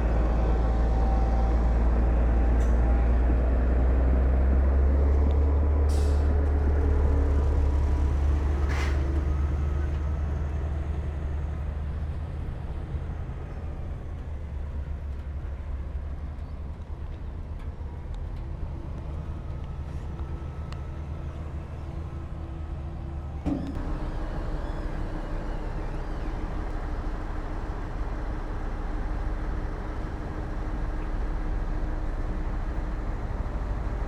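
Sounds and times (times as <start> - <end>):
diesel machinery rumbling: 0.0 - 34.0.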